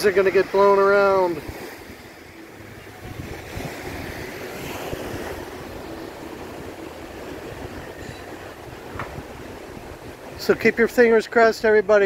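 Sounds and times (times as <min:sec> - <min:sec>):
sea waves washing in: 0:00.0 - 0:12.0
wind buffeting microphone: 0:01.2 - 0:12.0.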